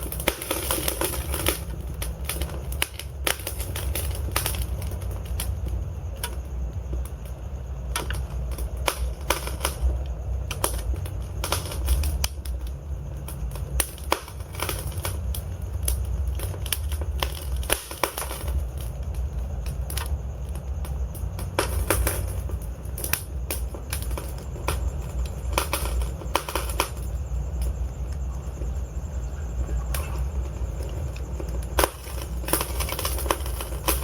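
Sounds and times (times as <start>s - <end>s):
burning logs crackling and popping: 0.0s - 34.0s
flames rumbling: 0.0s - 34.0s.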